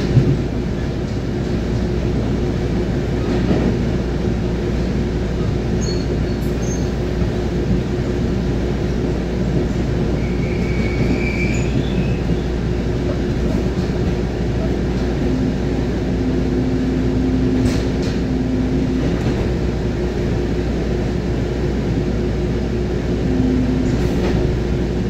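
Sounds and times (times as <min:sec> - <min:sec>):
train rolling rumble: 0:00.0 - 0:25.0.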